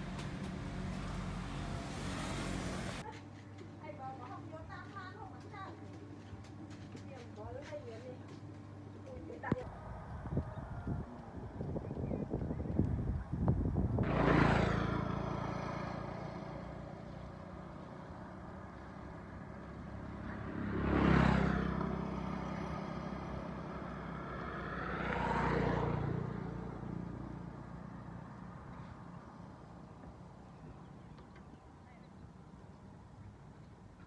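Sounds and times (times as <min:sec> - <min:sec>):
motor vehicles passing by: 0:00.0 - 0:34.0.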